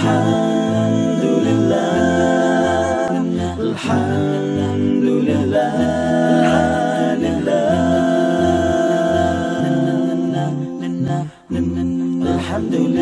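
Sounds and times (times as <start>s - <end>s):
voices singing in harmony: 0.0s - 13.0s.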